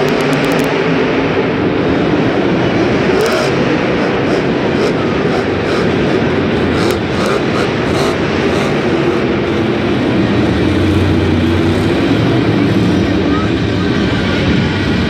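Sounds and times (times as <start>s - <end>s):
monster truck engine revving: 1.7s - 15.0s.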